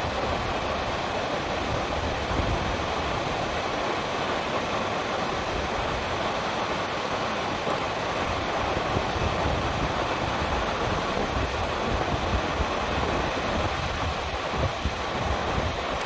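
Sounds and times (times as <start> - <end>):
water falling over a dam: 0.0 - 16.0.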